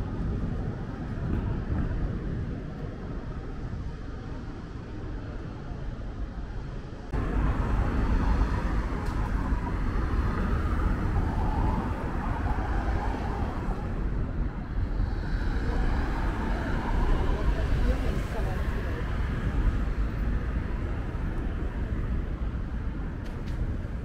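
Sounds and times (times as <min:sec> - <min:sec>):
steady low rumble: 0:00.0 - 0:24.0
traffic: 0:00.0 - 0:24.0.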